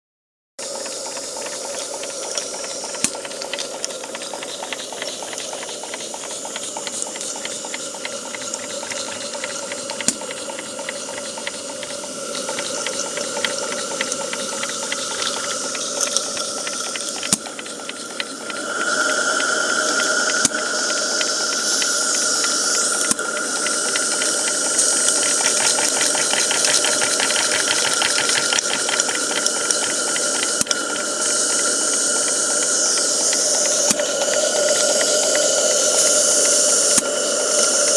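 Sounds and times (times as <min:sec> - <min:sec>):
rapid fine ticking: 0:00.6 - 0:37.9
steam locomotive hissing: 0:00.6 - 0:37.9.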